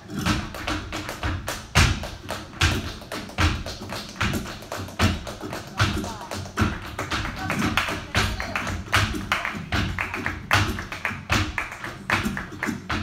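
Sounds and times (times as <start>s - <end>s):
dance shoes tapping on stage: 0.0s - 13.0s.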